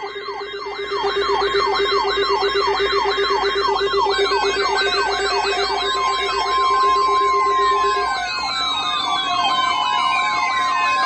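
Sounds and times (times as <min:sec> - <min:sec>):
high warbling tone: 0:00.0 - 0:09.8
electronic siren yelp: 0:00.0 - 0:11.0.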